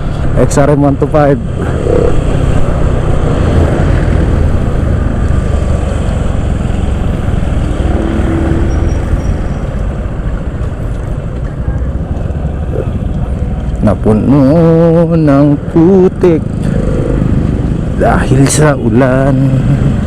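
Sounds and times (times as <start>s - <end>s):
road rumble: 0.0s - 20.0s
motorcycle engine: 1.4s - 20.0s.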